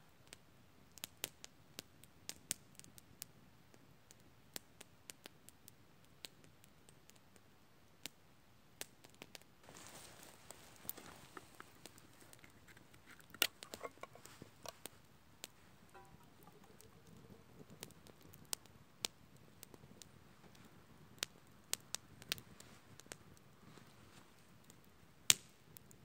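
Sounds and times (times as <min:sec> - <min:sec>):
faint hiss: 0:00.0 - 0:26.0
campfire crackling and popping: 0:00.1 - 0:26.0.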